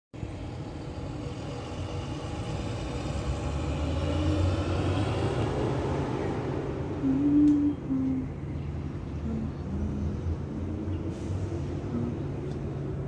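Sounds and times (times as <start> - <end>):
road traffic rumble: 0.2 - 13.0
vehicle engine hum: 0.2 - 13.0.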